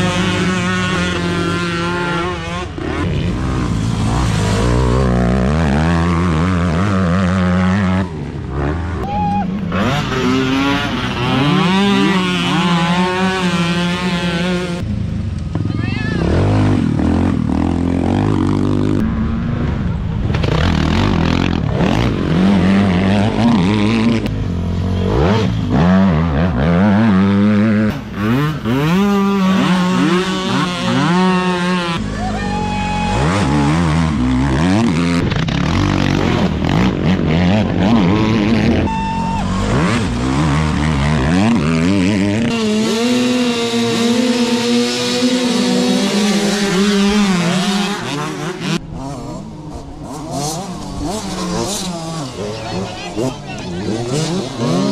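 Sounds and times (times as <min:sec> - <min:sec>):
dirt bike engines idling: 0:00.0 - 0:54.9
quad bike engines revving: 0:00.0 - 0:54.9.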